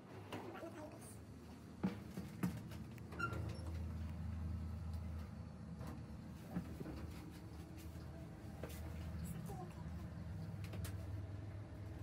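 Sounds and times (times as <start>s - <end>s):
elevator running hum: 1.1s - 12.0s.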